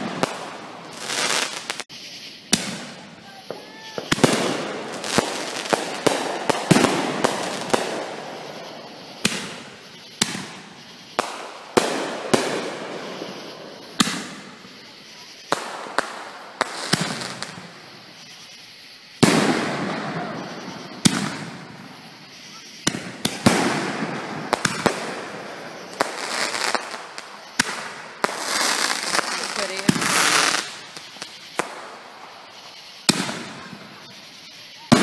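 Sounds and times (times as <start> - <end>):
fireworks bangs with echo: 0.0 - 18.3, 19.1 - 35.0.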